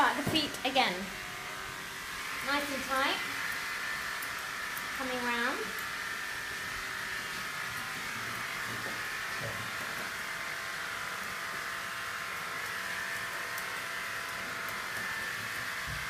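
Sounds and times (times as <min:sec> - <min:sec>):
small electric motor humming: 0:00.0 - 0:16.0.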